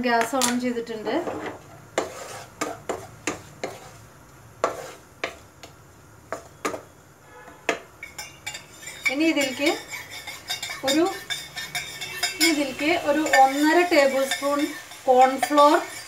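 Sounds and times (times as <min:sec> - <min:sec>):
wooden spatula scraping a wok: 0:00.9 - 0:05.4, 0:06.4 - 0:16.0.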